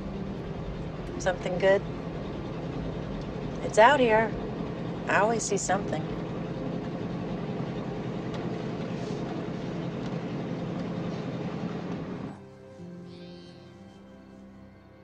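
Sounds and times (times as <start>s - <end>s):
engine and road noise in cabin: 0.0s - 15.0s
faint music with held tones: 0.0s - 15.0s
low hum: 0.0s - 15.0s.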